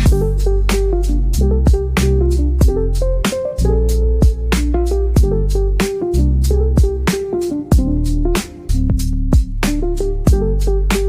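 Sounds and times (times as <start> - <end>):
deep bass: 0.0 - 11.0.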